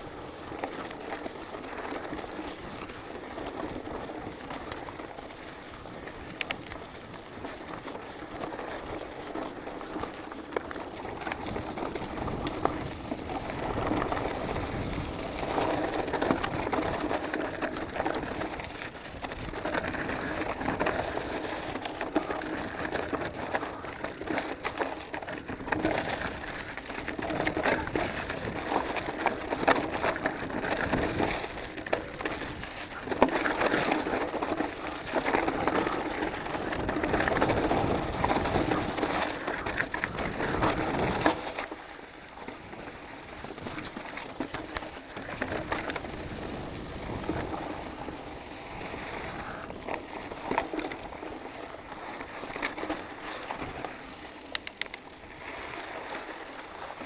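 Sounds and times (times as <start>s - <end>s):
bike tyres crunching over gravel: 0.0s - 57.0s.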